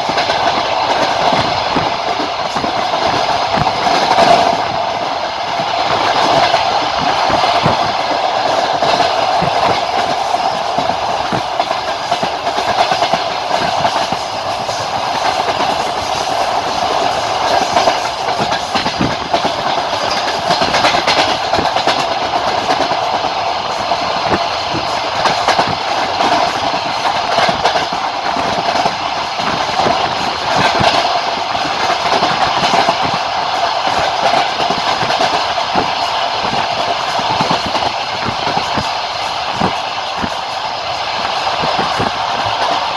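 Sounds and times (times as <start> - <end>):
train wheels clicking over rail joints: 0.0 - 42.9
wheels rolling on rails: 0.0 - 42.9.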